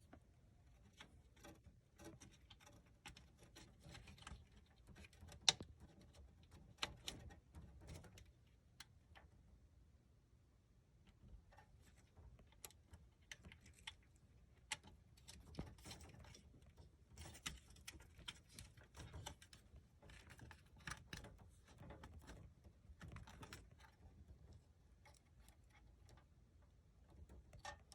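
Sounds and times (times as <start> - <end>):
hands rustling wiring: 0.0 - 9.4, 11.0 - 27.9.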